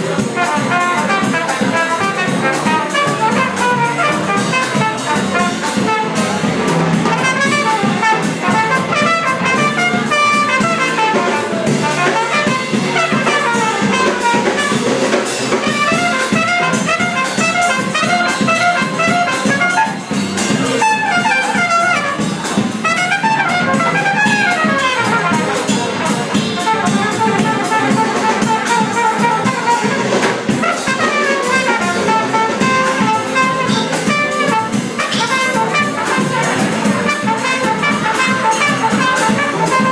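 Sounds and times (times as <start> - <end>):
drum kit: 0.0 - 39.9
trumpet playing quick runs: 0.0 - 39.9
upright bass: 0.0 - 39.9.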